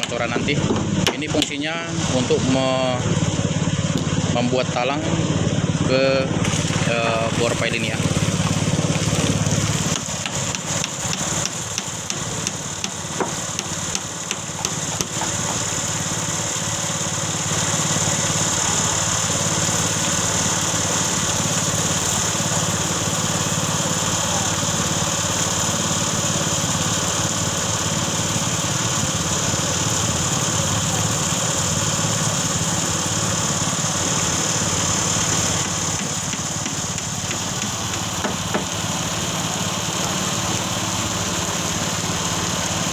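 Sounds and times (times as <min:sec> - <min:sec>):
small engine running: 0:00.0 - 0:42.9.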